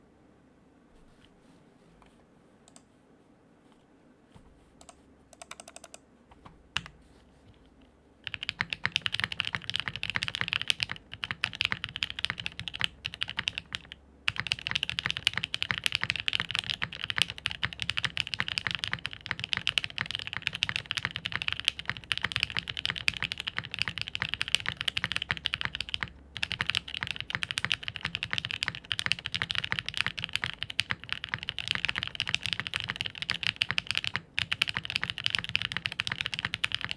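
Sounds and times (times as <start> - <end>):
mechanical keyboard typing: 4.8 - 6.0, 8.2 - 36.9.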